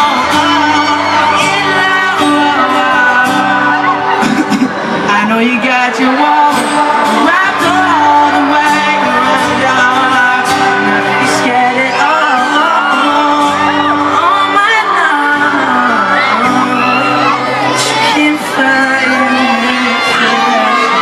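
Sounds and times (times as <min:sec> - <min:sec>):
audience screaming: 0:00.0 - 0:21.0
live band playing pop ballad: 0:00.0 - 0:21.0
person singing: 0:00.0 - 0:21.0.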